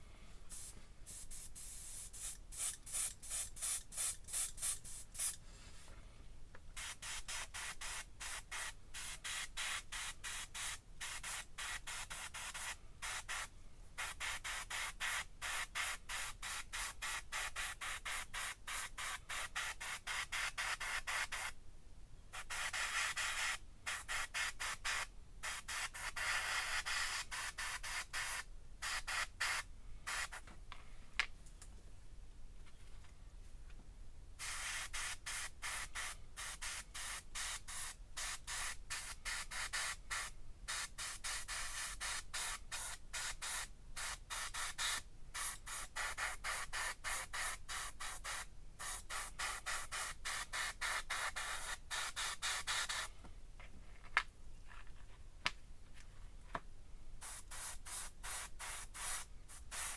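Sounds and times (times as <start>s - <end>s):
spray paint hissing in bursts: 0.5s - 5.4s, 6.8s - 21.6s, 22.3s - 30.4s, 34.4s - 53.1s, 57.2s - 59.9s.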